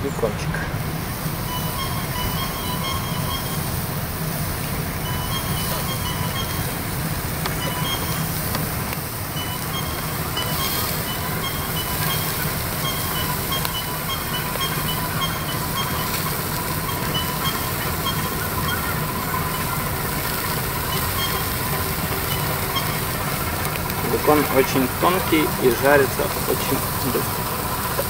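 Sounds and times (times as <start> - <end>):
low steady rumble: 0.0 - 28.0
faint crackles: 0.1 - 28.0
meat sizzling on a grill: 0.8 - 28.0.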